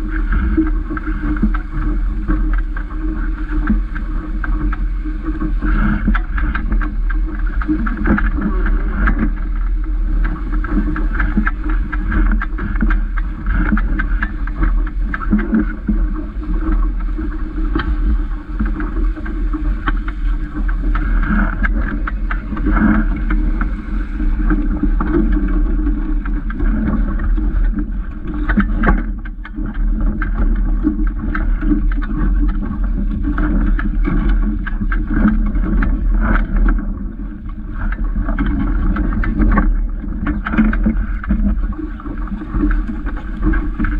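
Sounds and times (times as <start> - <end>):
water slapping against boat hull: 0.0 - 43.9
wind buffeting microphone: 0.0 - 43.9.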